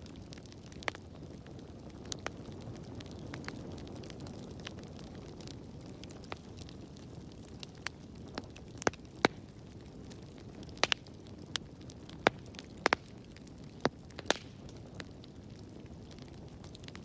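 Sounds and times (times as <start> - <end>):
fire crackling and popping: 0.0 - 17.0
low rush of flames: 0.0 - 17.0.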